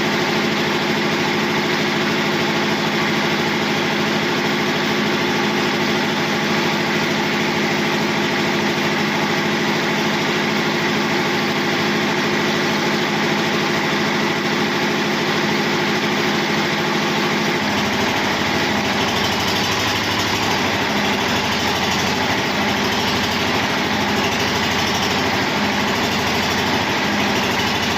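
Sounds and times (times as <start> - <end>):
engine idling: 0.0 - 27.9.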